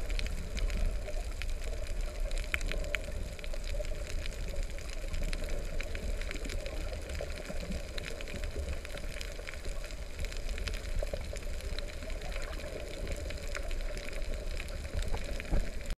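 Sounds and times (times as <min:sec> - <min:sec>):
faint clicks and crackles: 0:00.0 - 0:16.0
muffled underwater rumble: 0:00.0 - 0:16.0.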